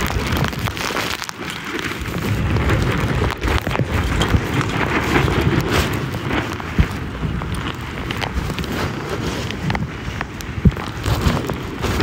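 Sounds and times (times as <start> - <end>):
choppy water splashing: 0.0 - 12.0
gusty wind buffeting microphone: 0.0 - 12.0
rain: 0.0 - 12.0.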